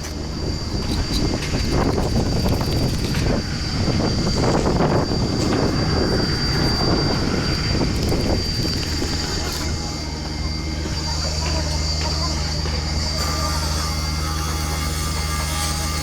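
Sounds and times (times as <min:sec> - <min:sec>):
engine running: 0:00.0 - 0:16.0
high whine: 0:00.0 - 0:16.0.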